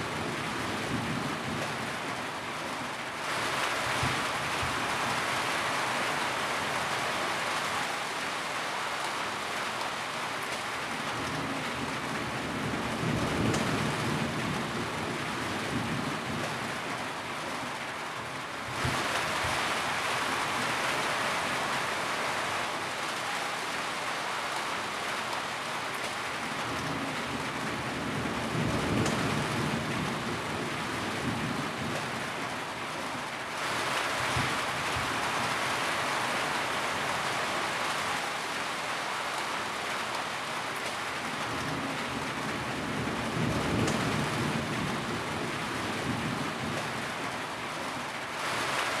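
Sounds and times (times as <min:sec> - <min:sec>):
steady rainfall hiss: 0:00.0 - 0:49.0.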